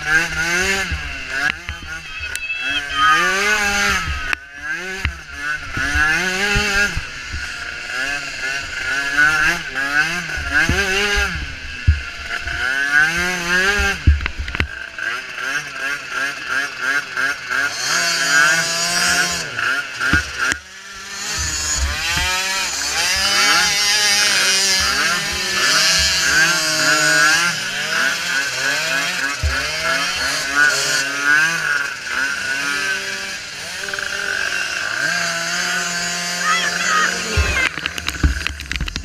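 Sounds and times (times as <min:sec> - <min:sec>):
small atv engines revving: 0:00.0 - 0:39.0.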